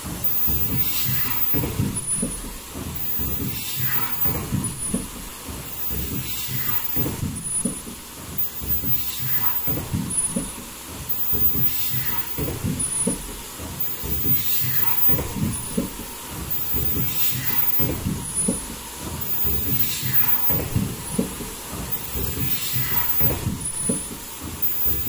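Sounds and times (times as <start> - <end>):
machine clatter and knocks: 0.0 - 25.0.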